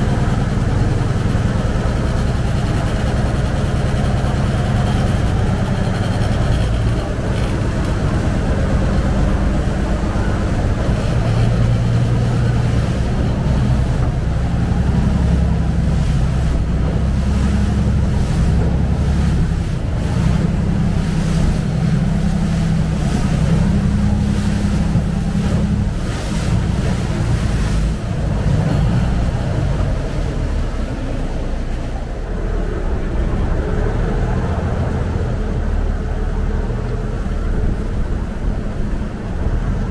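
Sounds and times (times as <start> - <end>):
boat engine droning: 0.0 - 39.9
water rushing along hull: 0.0 - 39.9.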